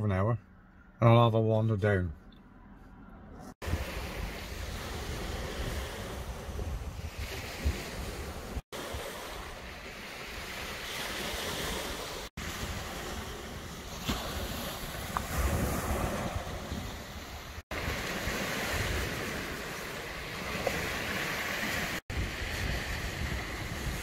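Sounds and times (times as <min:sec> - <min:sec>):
waves washing up shingle: 0:03.6 - 0:24.0
wind buffeting microphone: 0:03.6 - 0:24.0.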